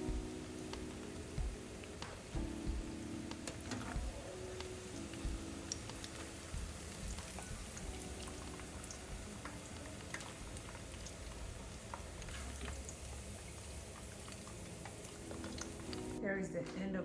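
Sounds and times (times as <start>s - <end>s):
food frying in hot oil: 0.2s - 16.2s.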